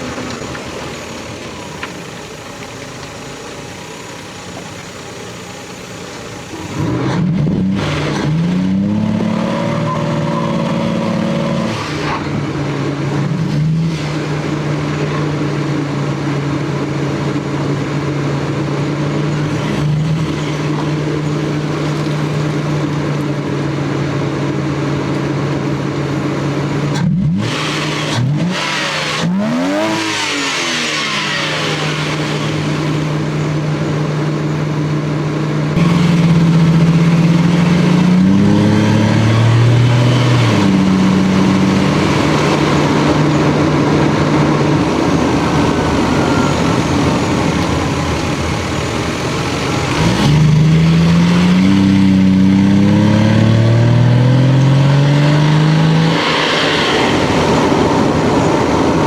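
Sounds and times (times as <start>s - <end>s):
car engine and exhaust accelerating: 0.0s - 59.0s.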